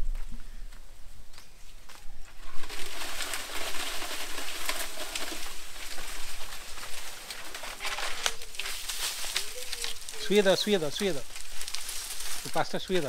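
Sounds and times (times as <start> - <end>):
dry stalks rustling and crackling: 0.0 - 13.0.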